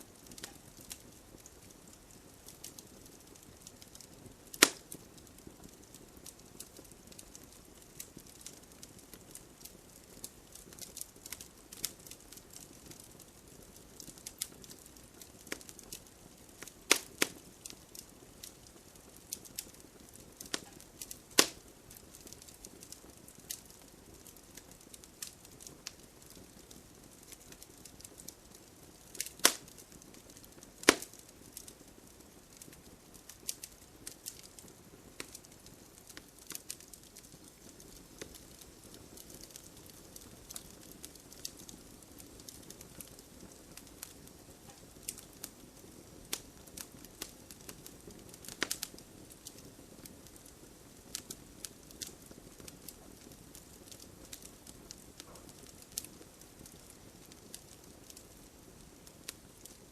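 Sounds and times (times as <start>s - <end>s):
campfire crackling: 0.0s - 59.9s
low fire hiss: 0.0s - 59.9s
sharp pops of fire: 0.0s - 59.9s.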